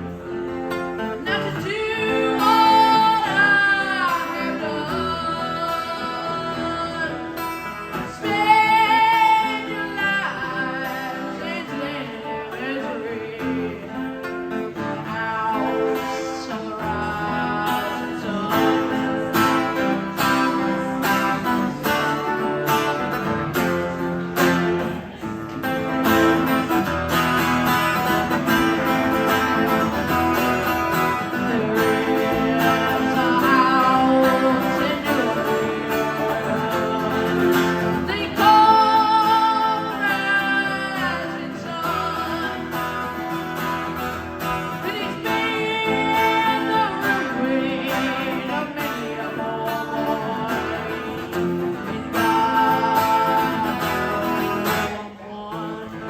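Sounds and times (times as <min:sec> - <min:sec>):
acoustic guitar strumming: 0:00.0 - 0:56.0
person singing: 0:00.0 - 0:56.0.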